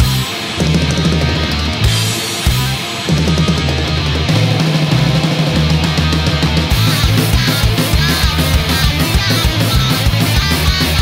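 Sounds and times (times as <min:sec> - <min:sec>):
distorted electric guitar riff: 0:00.0 - 0:11.0
drums: 0:00.0 - 0:11.0.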